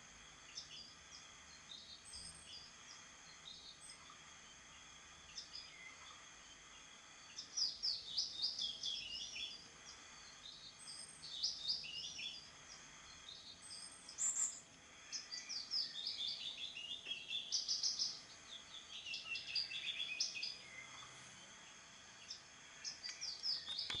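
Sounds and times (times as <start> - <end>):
faint steady hiss: 0.0 - 24.0
songbird singing: 0.0 - 24.0.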